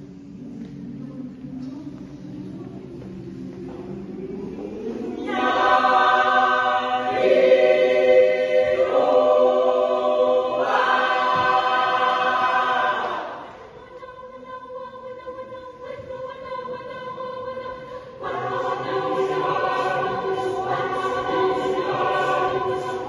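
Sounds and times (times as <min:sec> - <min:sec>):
a cappella choir singing: 0:02.6 - 0:23.0.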